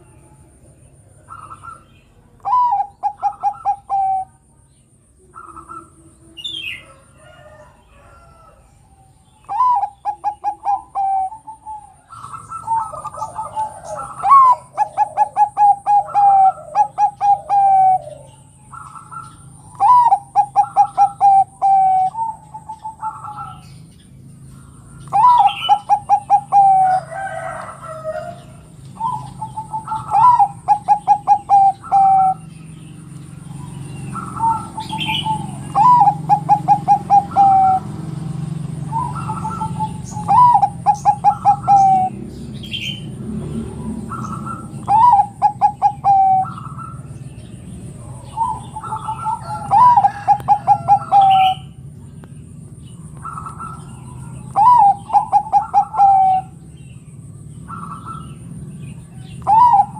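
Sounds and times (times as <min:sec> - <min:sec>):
dove cooing: 0:00.0 - 0:04.5, 0:05.2 - 0:59.9.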